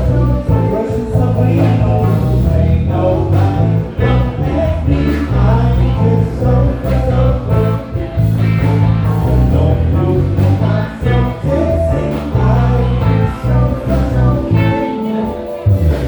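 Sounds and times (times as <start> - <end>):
drums playing steady beat: 0.0 - 16.0
electric bass: 0.0 - 16.0
keyboard: 0.0 - 16.0
melodic lead line: 0.0 - 16.0.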